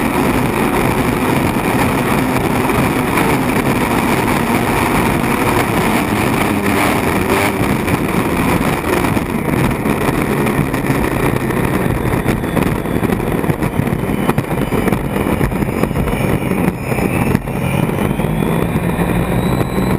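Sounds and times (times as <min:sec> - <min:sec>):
boat turbine engine racing: 0:00.0 - 0:19.9
rushing wind: 0:00.0 - 0:19.9.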